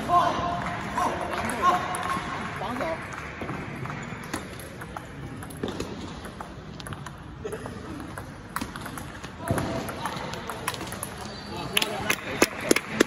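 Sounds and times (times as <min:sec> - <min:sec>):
table tennis balls clicking: 0:00.6 - 0:13.0.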